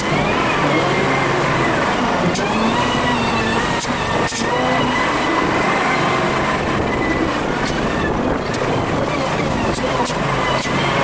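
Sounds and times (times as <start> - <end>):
wavering whines: 0.0 - 11.0
wheel loader engine and hydraulics: 0.0 - 11.0.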